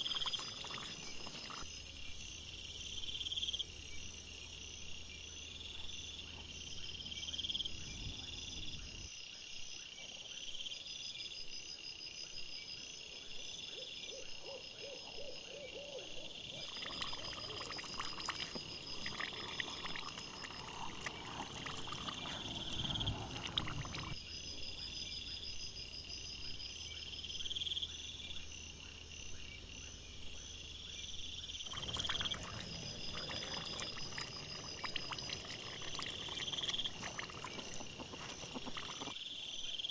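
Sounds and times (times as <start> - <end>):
night insects chirping: 0.0 - 39.9.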